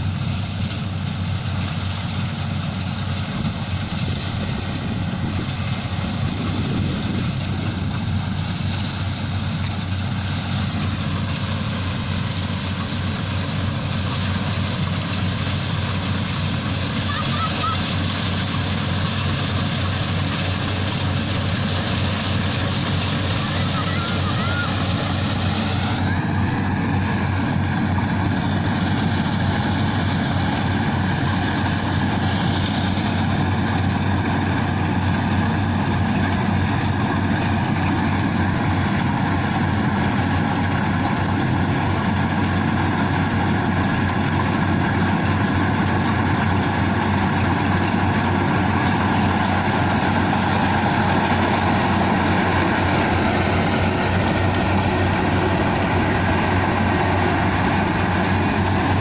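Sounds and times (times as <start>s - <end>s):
harvester engine drone: 0.0s - 59.0s.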